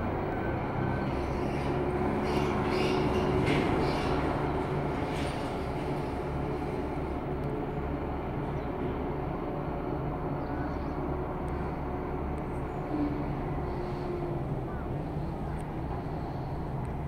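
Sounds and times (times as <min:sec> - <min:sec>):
faint hum: 0:00.0 - 0:17.0
steady low rumble: 0:00.0 - 0:17.0.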